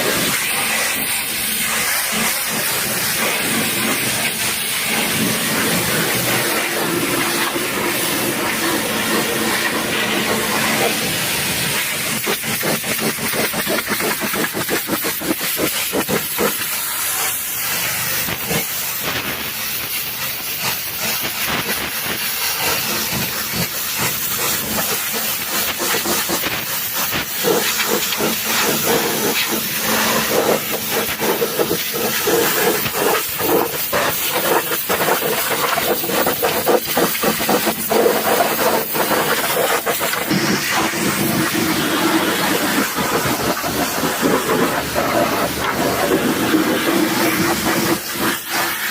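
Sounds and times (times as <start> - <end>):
pressure washer jet spraying: 0.0 - 48.9.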